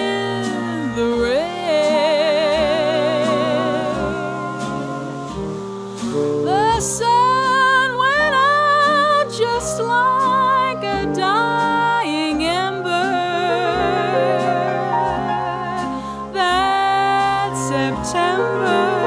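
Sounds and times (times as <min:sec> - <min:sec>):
jazz orchestra playing swing: 0:00.0 - 0:19.0.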